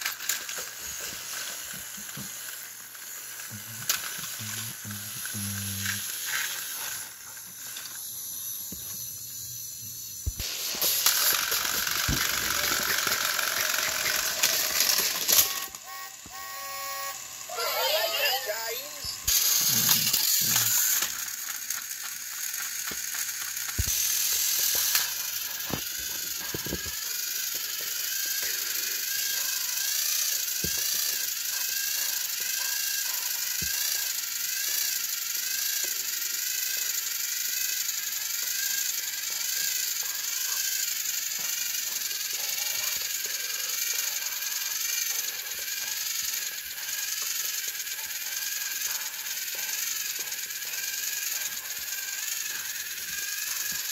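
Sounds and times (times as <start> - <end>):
toy train motors whirring: 0.0 - 53.9.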